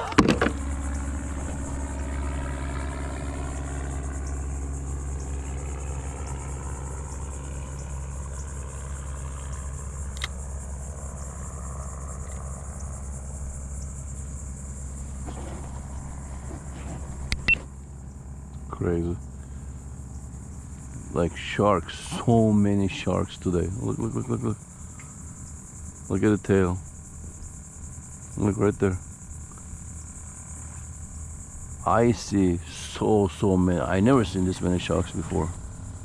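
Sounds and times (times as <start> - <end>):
boat motor humming: 0.0 - 36.0
insects buzzing: 0.0 - 36.0.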